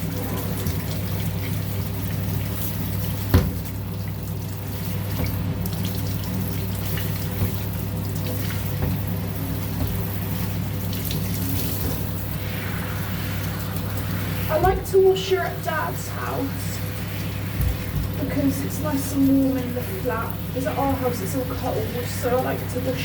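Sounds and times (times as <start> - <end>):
shower water running: 0.0 - 23.0.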